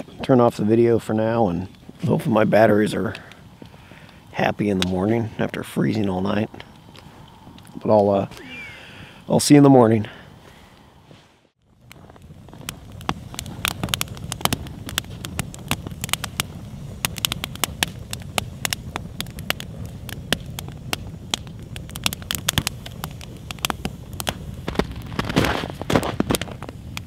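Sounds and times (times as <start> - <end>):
campfire crackling and popping: 0.0 - 10.9, 11.5 - 27.0.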